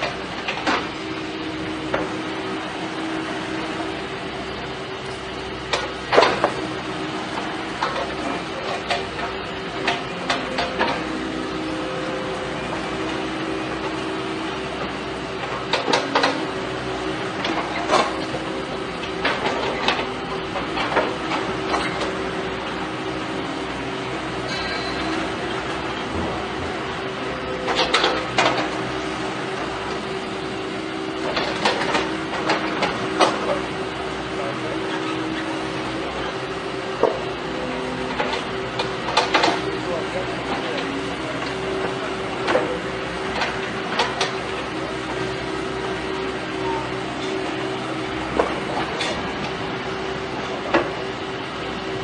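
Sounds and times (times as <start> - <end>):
skid steer loader engine hum: 0.0 - 52.0.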